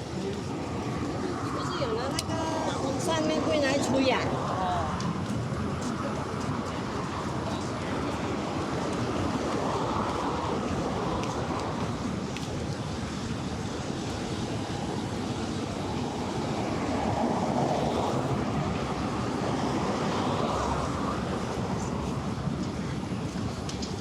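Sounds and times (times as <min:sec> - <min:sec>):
vehicles passing on road: 0:00.0 - 0:24.0.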